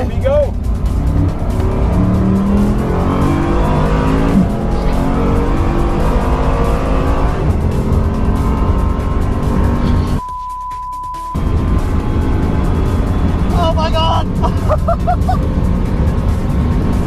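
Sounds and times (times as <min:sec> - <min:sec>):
car engine accelerating hard: 0:00.0 - 0:10.2, 0:11.4 - 0:17.0.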